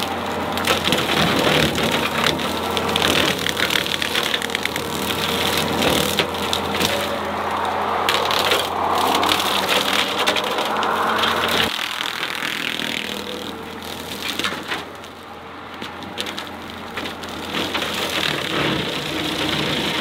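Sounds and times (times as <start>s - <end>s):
low engine hum: 0.0s - 20.0s
wood cracking and splintering: 0.0s - 20.0s.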